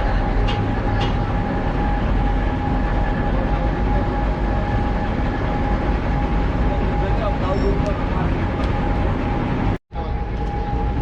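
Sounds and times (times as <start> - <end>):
high whine: 0.0 - 11.0
machinery engine low rumble: 0.0 - 11.0.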